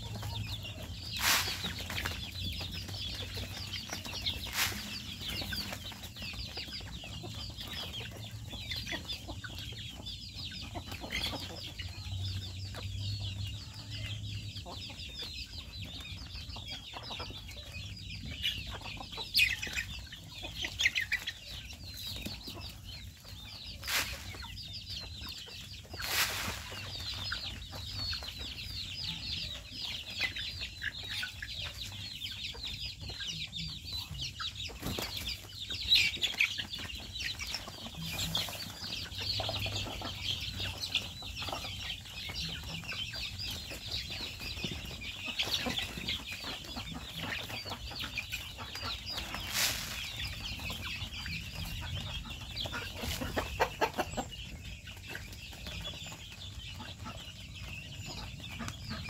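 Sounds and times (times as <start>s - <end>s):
chickens clucking: 0.0s - 59.0s
chicks peeping: 0.0s - 59.0s.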